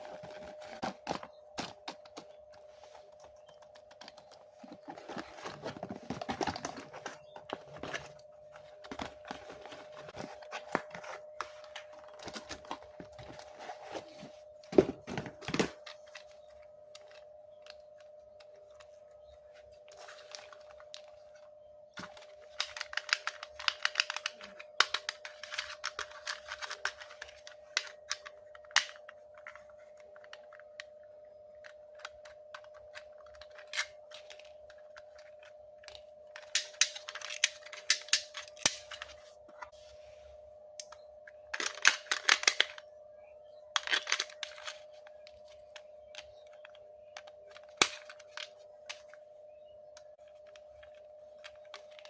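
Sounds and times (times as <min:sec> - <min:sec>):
plastic and cardboard crackling: 0:00.0 - 0:39.8, 0:40.6 - 0:42.9, 0:43.5 - 0:52.0
faint steady hum: 0:00.0 - 0:52.0.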